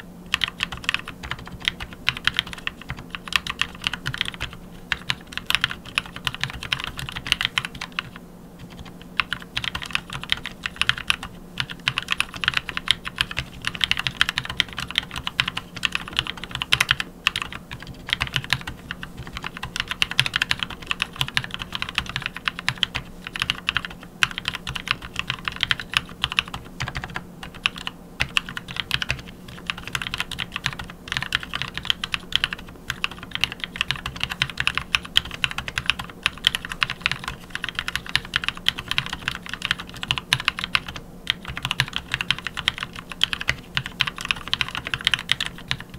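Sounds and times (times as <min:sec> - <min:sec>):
mechanical keyboard typing: 0:00.3 - 0:45.9.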